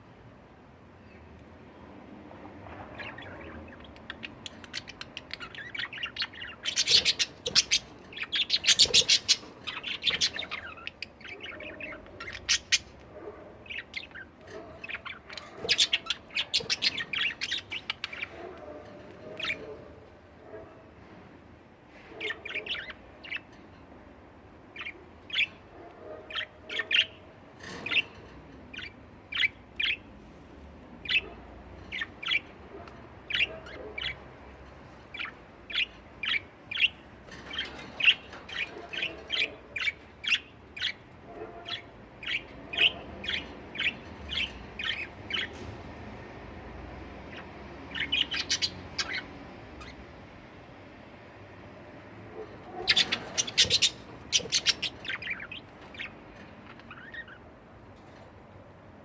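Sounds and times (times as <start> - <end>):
budgerigars chirping: 2.6 - 19.9, 22.2 - 23.6, 24.7 - 25.7, 26.3 - 30.1, 31.0 - 50.2, 52.6 - 57.5.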